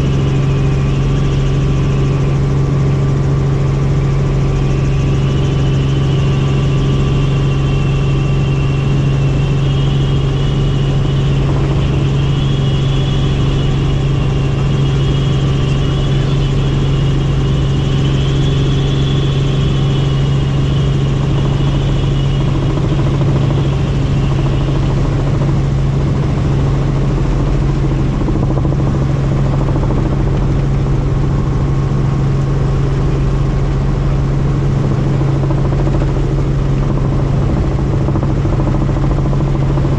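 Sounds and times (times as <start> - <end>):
helicopter rotor and engine drone: 0.0 - 39.9
high wavering whine: 0.0 - 39.9.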